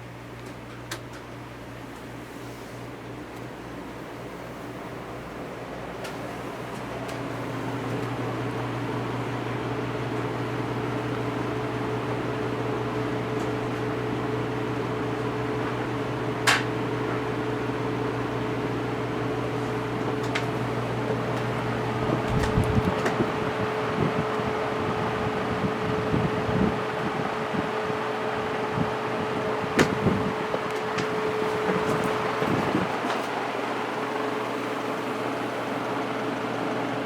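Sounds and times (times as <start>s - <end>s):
ceiling fan humming: 0.0s - 37.0s.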